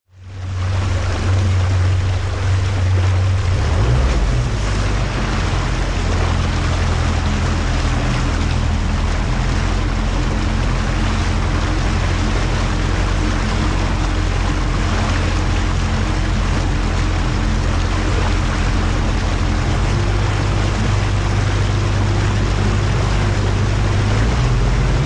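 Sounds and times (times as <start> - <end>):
outboard motor running: 0.1 - 25.0
water rushing past hull: 0.1 - 25.0.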